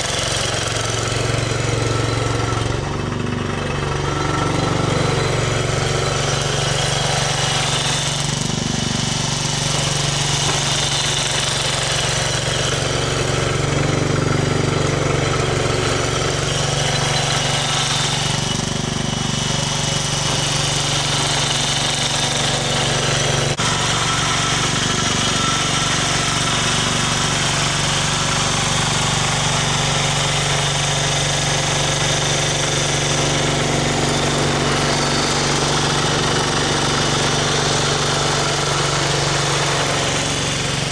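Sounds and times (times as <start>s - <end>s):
snow blower engine running: 0.0s - 40.9s.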